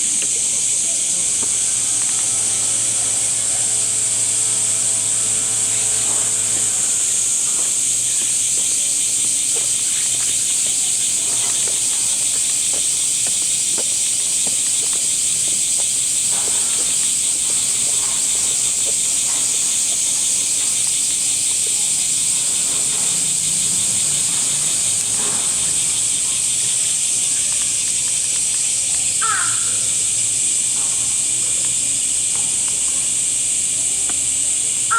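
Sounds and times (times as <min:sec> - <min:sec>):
cicadas droning: 0:00.0 - 0:34.9.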